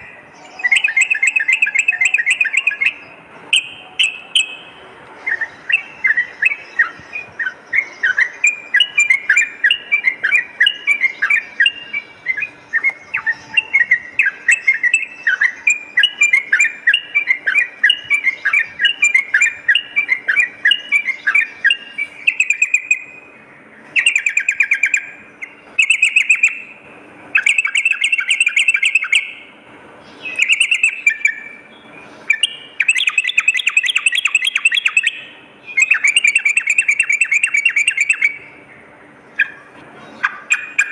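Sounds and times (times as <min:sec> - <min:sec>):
bulbul singing: 0:00.0 - 0:26.8, 0:27.4 - 0:40.9.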